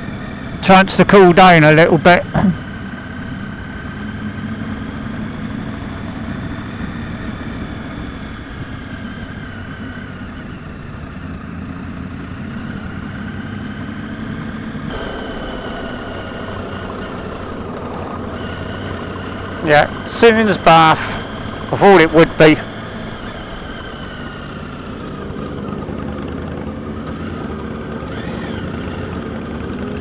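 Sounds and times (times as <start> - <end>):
motorcycle engine running: 0.0 - 30.0
road noise: 0.0 - 30.0.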